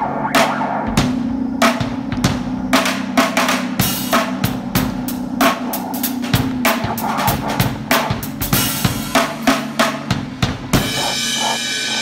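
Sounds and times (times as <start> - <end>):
drum kit beat with bass line: 0.0 - 12.0.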